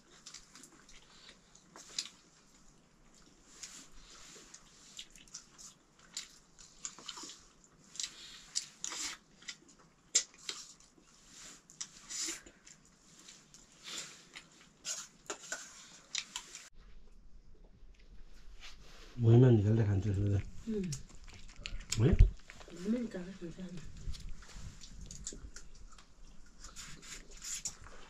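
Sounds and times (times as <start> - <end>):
soft chewing: 0.0 - 28.0.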